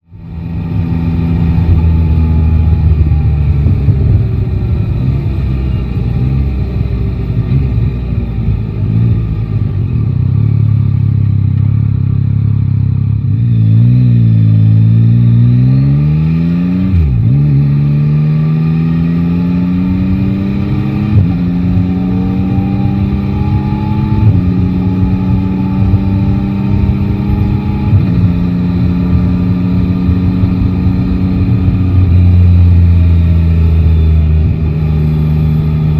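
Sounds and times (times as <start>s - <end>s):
wind and road noise: 0.0s - 35.9s
motorcycle engine accelerating: 0.1s - 35.9s.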